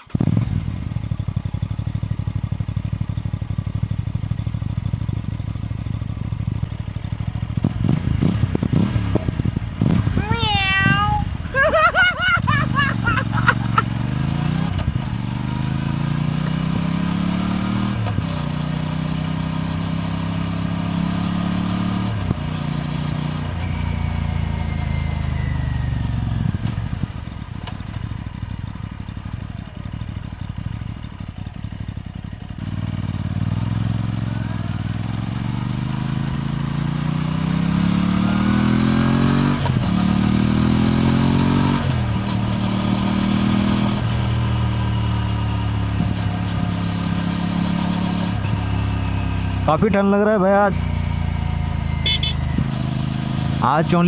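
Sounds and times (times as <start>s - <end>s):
motorcycle engine accelerating through gears: 0.0s - 54.0s.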